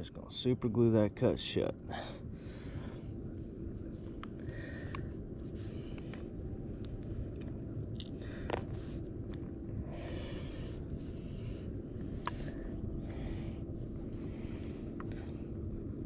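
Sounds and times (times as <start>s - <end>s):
wind and water rumble: 1.4s - 16.0s
soft hissing swells: 1.6s - 16.0s.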